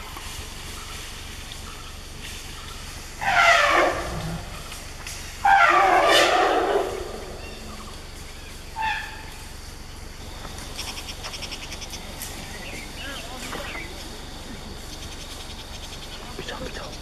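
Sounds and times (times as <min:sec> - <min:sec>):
elephants trumpeting: 0:00.0 - 0:17.0.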